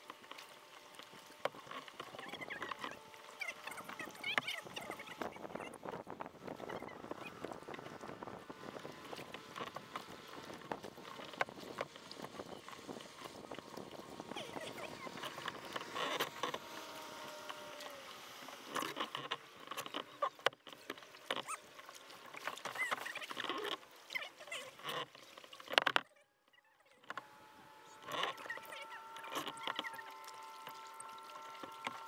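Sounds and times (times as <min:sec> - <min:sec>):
paddle splashing in water: 0:00.0 - 0:26.1, 0:26.9 - 0:32.0
paddle clicks: 0:00.0 - 0:32.0.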